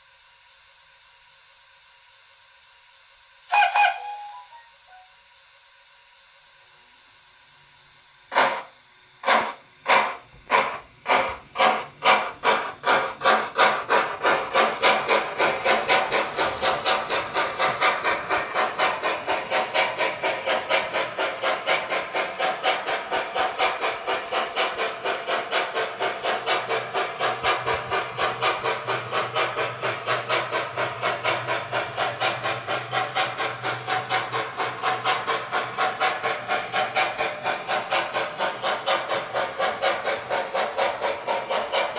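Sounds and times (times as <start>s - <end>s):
model steam locomotive chuffing: 0.0s - 41.9s.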